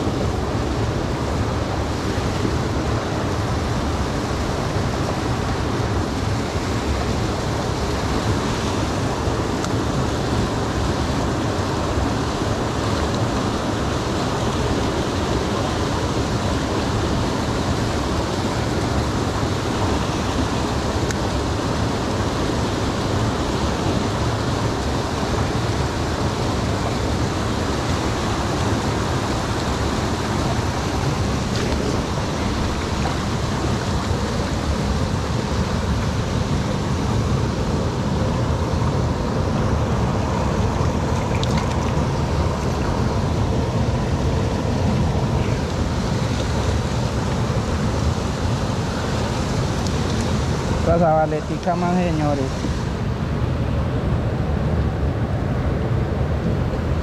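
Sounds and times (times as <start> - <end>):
fast-flowing creek rushing: 0.0 - 57.0.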